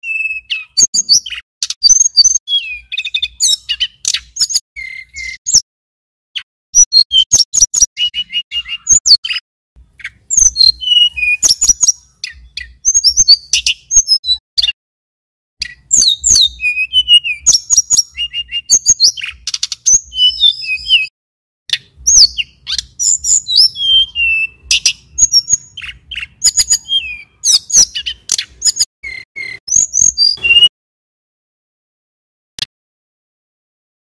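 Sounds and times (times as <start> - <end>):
bird singing chirps and whistles: 0.0 - 5.6, 6.4 - 14.8, 15.6 - 21.1, 21.7 - 30.7.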